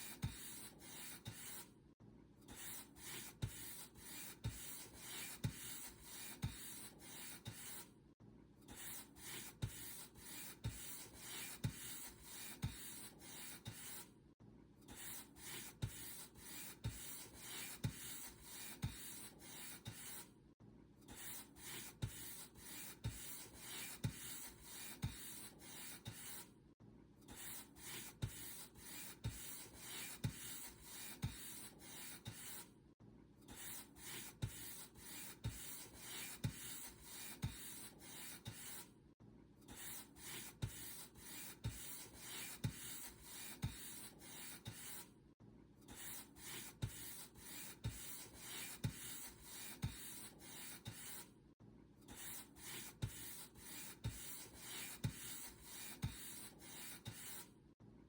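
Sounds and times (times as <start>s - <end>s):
paint brush strokes: 2.6s - 7.9s, 8.8s - 14.1s, 15.0s - 20.3s, 21.2s - 26.5s, 27.3s - 32.7s, 33.5s - 38.9s, 39.7s - 45.1s, 45.9s - 51.3s, 52.1s - 57.5s.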